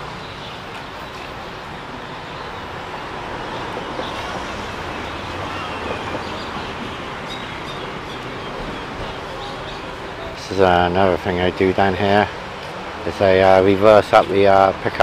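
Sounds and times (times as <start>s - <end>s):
passing road traffic: 0.0s - 15.0s.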